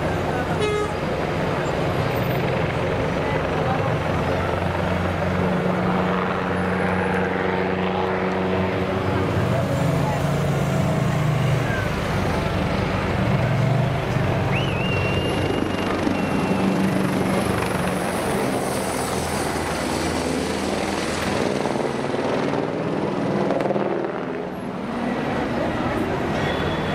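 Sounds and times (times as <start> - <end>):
helicopter flying overhead: 0.0 - 26.9.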